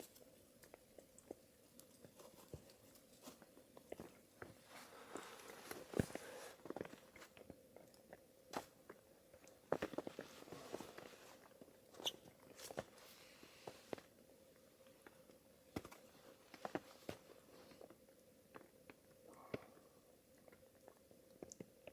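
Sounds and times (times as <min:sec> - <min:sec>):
faint steady hum: 0:00.0 - 0:21.9.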